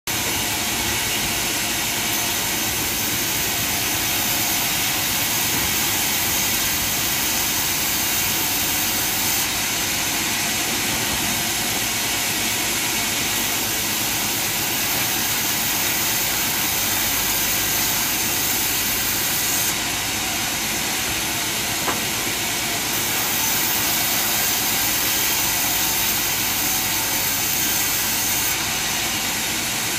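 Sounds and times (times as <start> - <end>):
machine running: 0.1 - 29.9.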